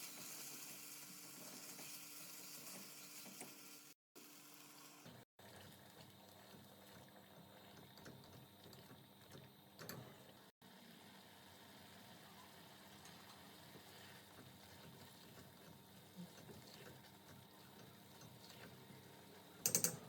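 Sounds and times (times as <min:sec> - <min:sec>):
liquid simmering in a pot: 0:00.0 - 0:20.0.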